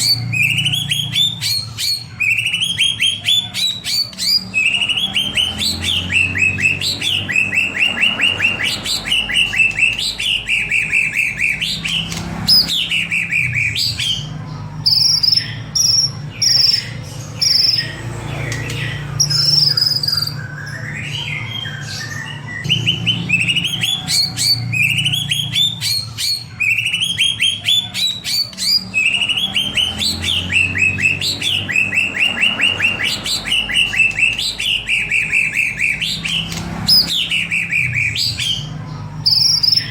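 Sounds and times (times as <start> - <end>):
songbird singing rattling notes: 0.0 - 39.9.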